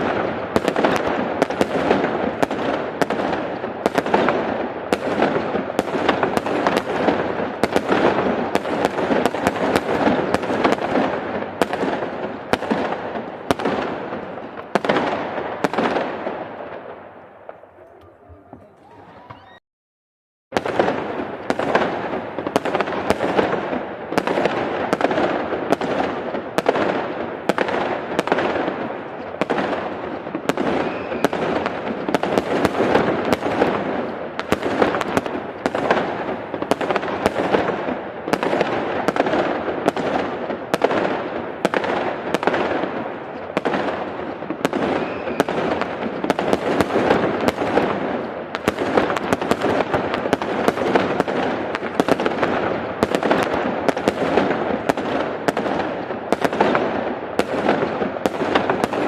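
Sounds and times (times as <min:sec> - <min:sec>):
fireworks bangs and crackling: 0:00.0 - 0:19.6, 0:20.5 - 0:59.0.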